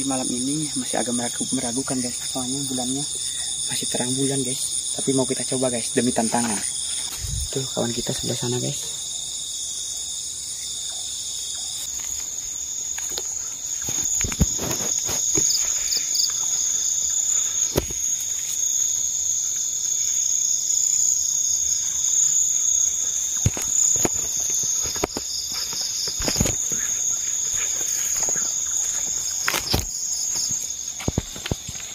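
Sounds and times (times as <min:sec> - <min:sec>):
crickets and insects trilling: 0:00.0 - 0:31.9.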